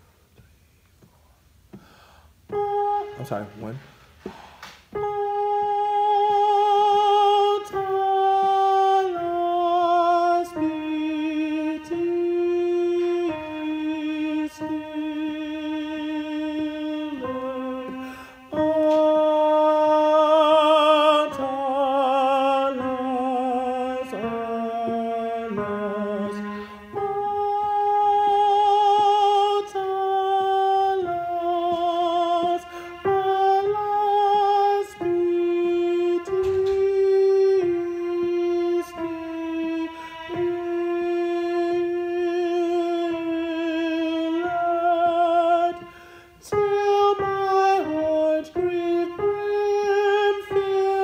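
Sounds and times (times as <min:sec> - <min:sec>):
solo alto voice singing: 0:02.5 - 0:51.0.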